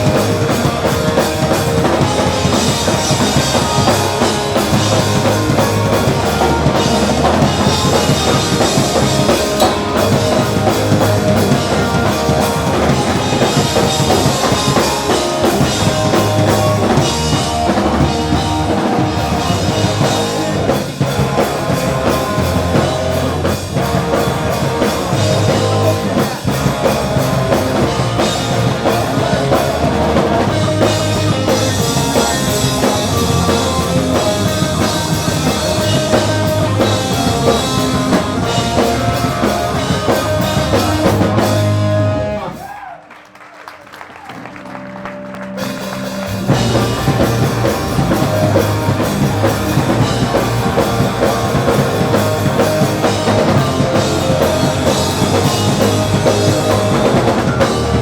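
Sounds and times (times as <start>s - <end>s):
punk rock band playing live: 0.0s - 42.8s, 44.3s - 58.0s.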